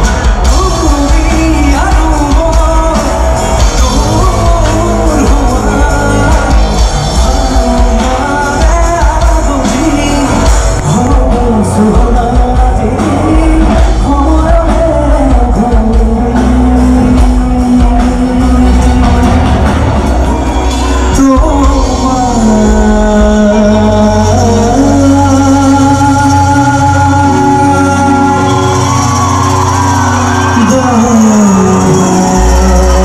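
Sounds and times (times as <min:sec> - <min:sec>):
live rock band: 0:00.0 - 0:33.0
man singing: 0:00.0 - 0:33.0.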